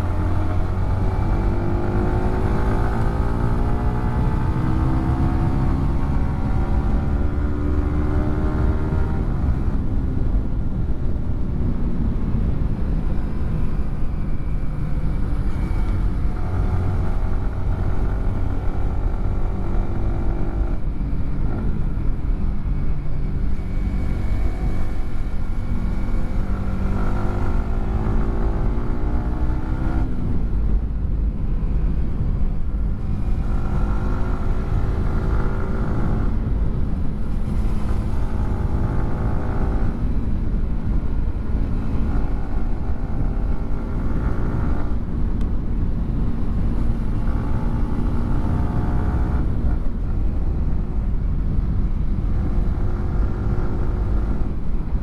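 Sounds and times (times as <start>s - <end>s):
motorcycle engine accelerating: 0.0s - 10.0s, 12.2s - 30.7s, 31.6s - 55.0s.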